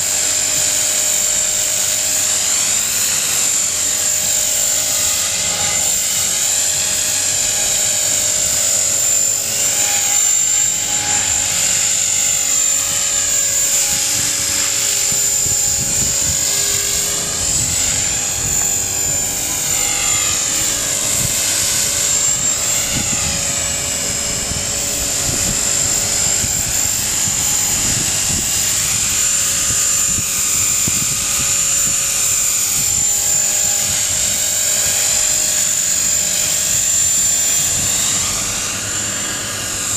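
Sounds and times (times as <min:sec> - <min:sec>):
motor high whine: 0:00.0 - 0:39.9
rotor blades whirring: 0:00.0 - 0:39.9.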